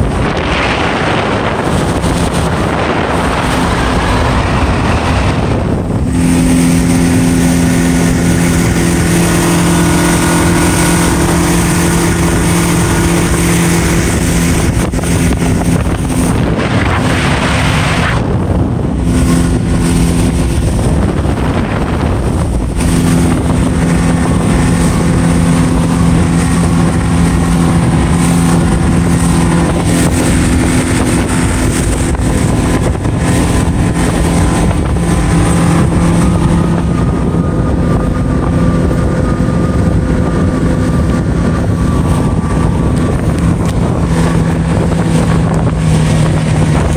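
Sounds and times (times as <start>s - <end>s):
outboard motor drone: 0.0s - 46.9s
wind and water rushing: 0.0s - 46.9s.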